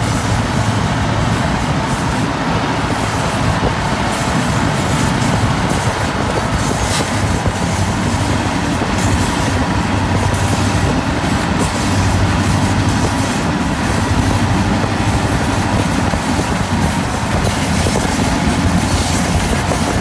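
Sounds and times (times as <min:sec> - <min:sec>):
freight train running: 0:00.0 - 0:20.0
vehicle road and wind noise: 0:00.0 - 0:20.0.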